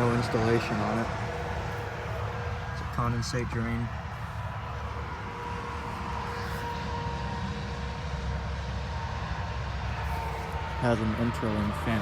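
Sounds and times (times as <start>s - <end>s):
faint steady whine: 0.0s - 12.0s
low machinery rumble: 0.0s - 12.0s.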